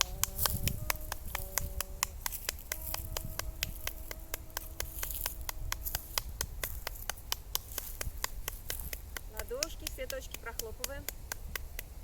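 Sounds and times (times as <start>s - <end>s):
hands slapping body: 0.0s - 12.0s.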